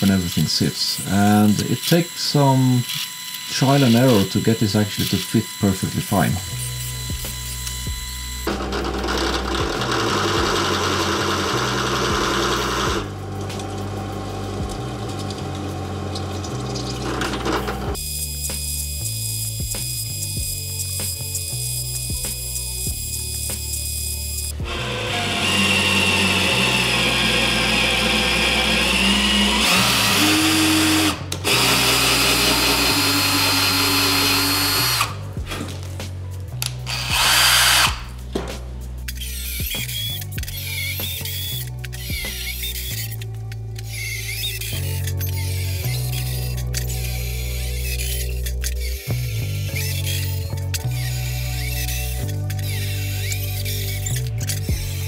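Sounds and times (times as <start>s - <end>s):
drill cutting through metal: 0.0s - 13.2s, 13.8s - 35.6s, 36.9s - 38.2s, 39.2s - 43.2s, 43.8s - 55.0s.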